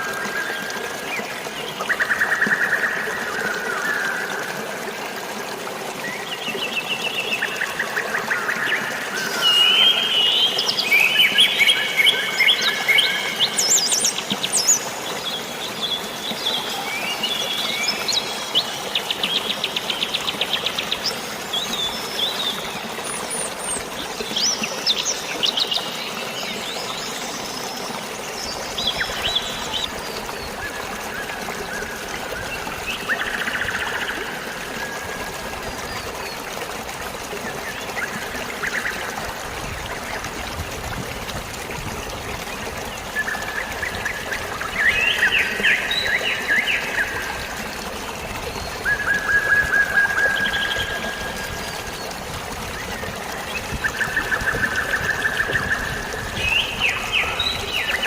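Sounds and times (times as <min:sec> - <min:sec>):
running water hiss: 0:00.0 - 0:58.0.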